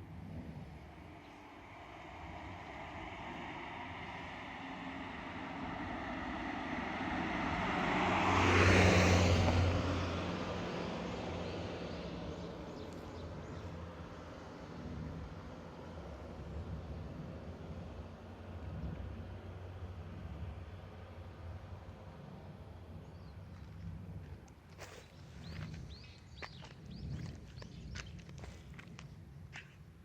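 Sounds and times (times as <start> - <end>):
motor vehicle passing by: 0.1 - 29.0.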